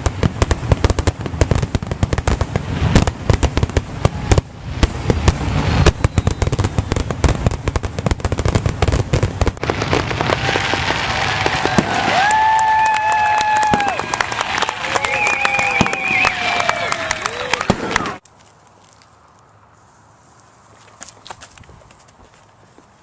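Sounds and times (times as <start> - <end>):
fireworks crackling: 0.0 - 20.2.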